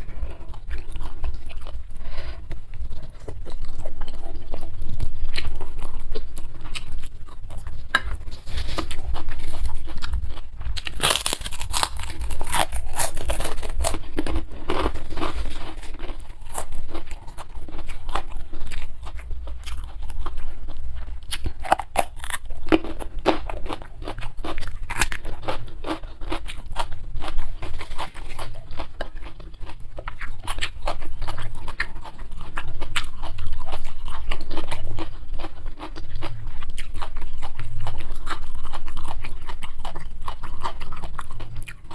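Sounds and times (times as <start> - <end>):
chewing and crunching food: 0.0 - 41.9.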